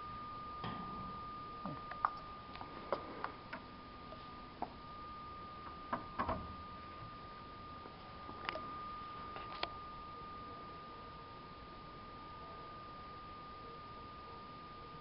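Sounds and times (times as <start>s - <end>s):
steady high tone: 0.0s - 15.0s.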